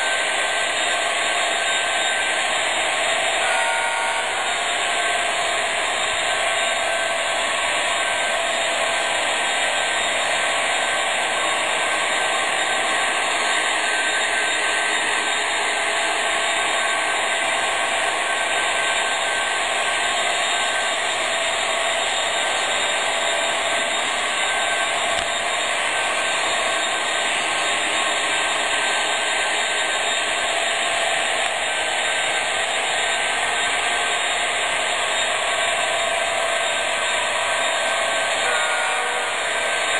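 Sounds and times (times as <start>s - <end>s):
whir of motors and wheels: 0.0s - 39.9s.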